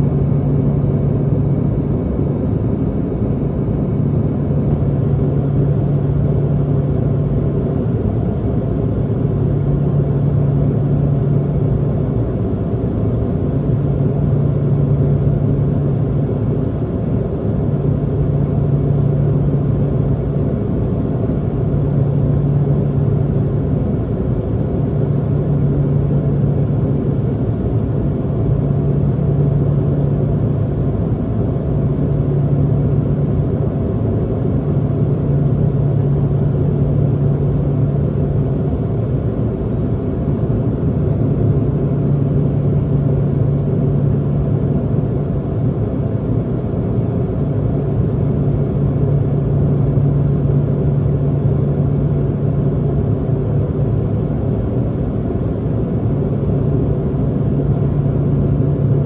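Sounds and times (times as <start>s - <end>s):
turboprop plane cabin drone: 0.0s - 59.0s.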